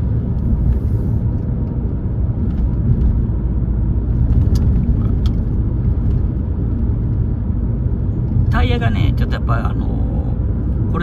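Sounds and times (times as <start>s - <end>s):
car road rumble inside cabin: 0.0s - 11.0s.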